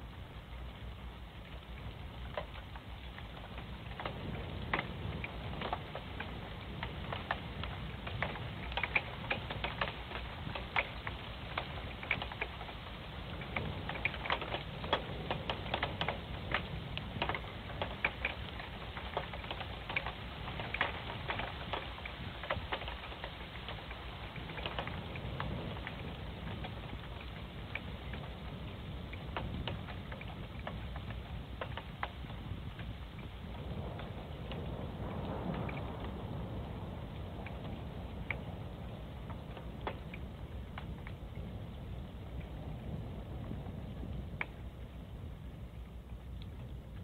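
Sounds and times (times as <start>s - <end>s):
rain drops ticking on housing: 0.0s - 47.0s
storm rain hiss and rumble: 0.0s - 47.0s.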